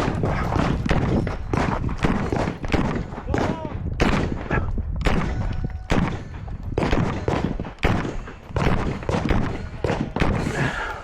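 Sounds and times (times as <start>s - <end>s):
rifle shots with echo: 0.0s - 10.9s.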